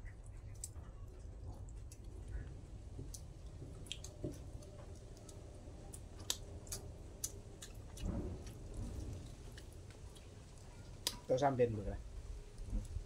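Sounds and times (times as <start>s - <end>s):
chewing and wet mouth smacks: 0.0s - 11.4s.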